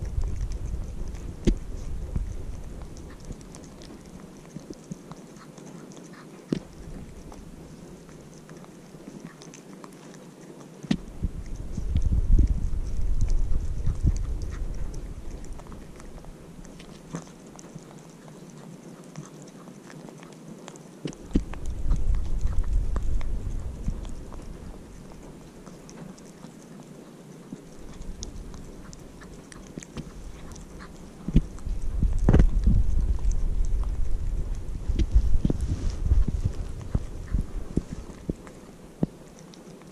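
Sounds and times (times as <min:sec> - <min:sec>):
kitten chewing food: 0:00.0 - 0:39.9.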